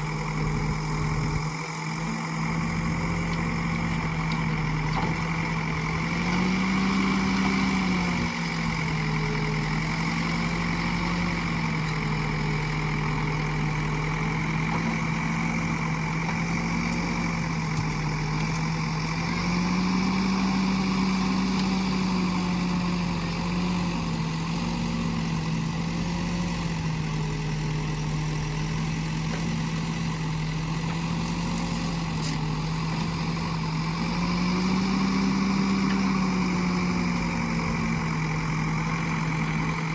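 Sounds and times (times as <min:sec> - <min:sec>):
backhoe diesel engine revving: 0:00.0 - 0:39.9.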